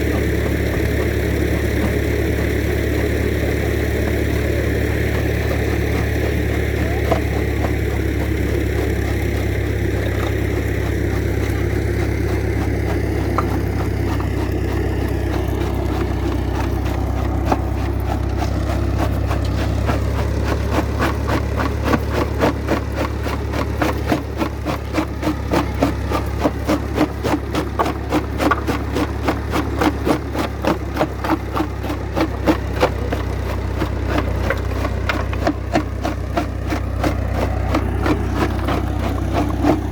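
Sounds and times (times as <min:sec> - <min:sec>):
rock crusher clattering: 0:00.0 - 0:39.9
tractor engine running: 0:00.0 - 0:39.9.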